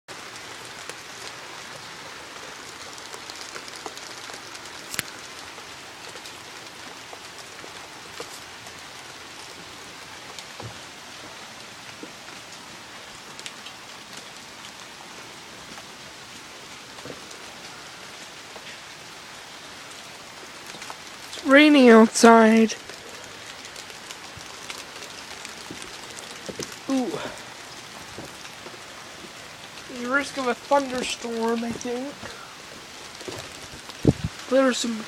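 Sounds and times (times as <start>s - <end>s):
heavy rain: 0.1s - 35.0s
raindrops tapping close by: 0.1s - 35.0s.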